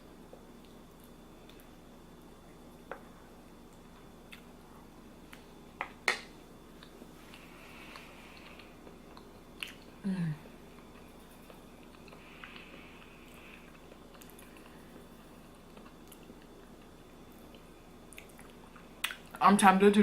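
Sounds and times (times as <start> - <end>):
chewing and wet mouth noises: 2.5 - 4.6, 5.3 - 19.4.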